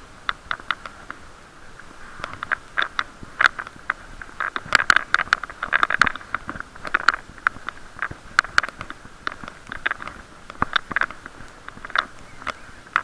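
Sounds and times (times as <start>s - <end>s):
muffled hiss of riding: 0.0s - 13.0s.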